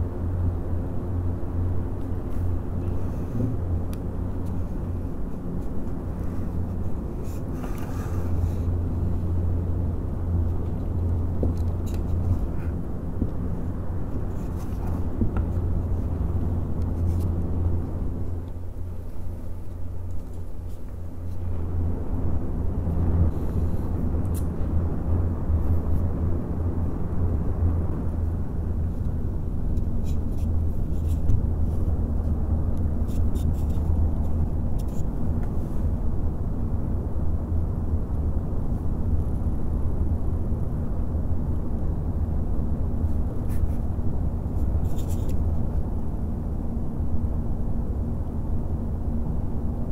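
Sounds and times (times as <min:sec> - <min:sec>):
fans blowing air: 0:00.0 - 0:49.9
low hum and buffeting rumble: 0:00.0 - 0:49.9.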